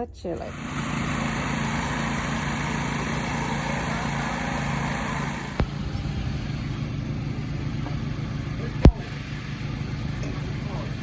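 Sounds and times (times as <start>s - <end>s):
motor humming: 0.2s - 11.0s.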